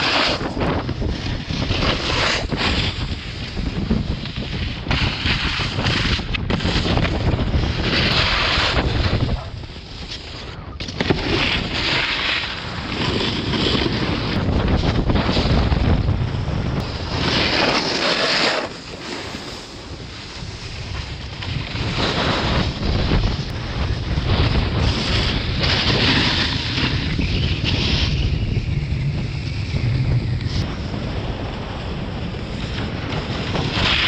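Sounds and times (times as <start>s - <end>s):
snowboard edges scraping snow: 0.0s - 34.0s
wind rushing over microphone: 0.0s - 34.0s.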